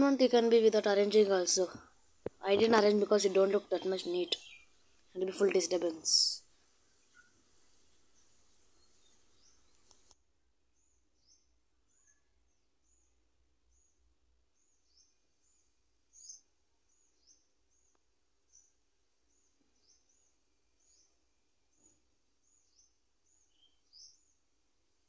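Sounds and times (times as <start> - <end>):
faint high-pitched bird chirps: 2.4 - 10.2, 10.8 - 24.4.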